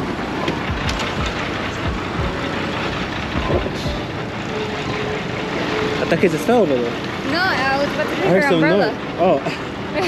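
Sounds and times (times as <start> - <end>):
bus engine rumbling: 0.0 - 10.0
street traffic noise: 0.0 - 10.0.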